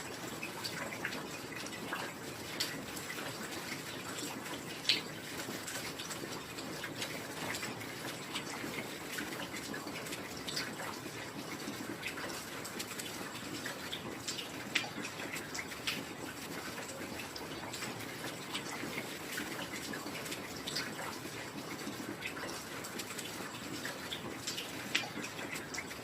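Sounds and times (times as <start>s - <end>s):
raindrops landing close by: 0.0s - 26.0s.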